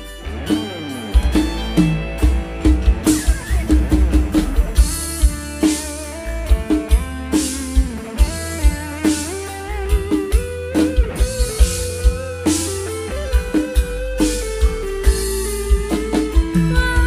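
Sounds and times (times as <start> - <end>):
band playing instrumental: 0.0 - 17.0
drums on a steady beat: 0.0 - 17.0.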